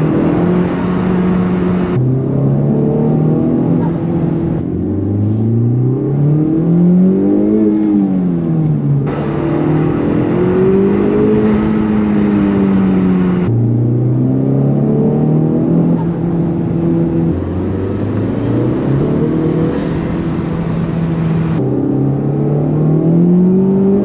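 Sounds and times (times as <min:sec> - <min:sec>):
car engine accelerating: 0:00.0 - 0:24.0
road noise: 0:00.0 - 0:24.0.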